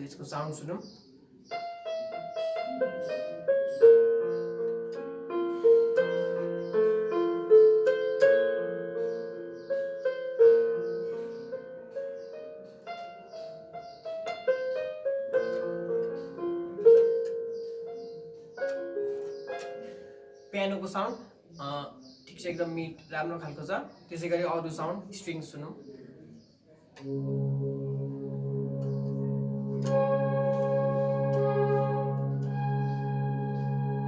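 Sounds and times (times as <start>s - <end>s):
digital keyboard piano melody: 0.0s - 34.0s.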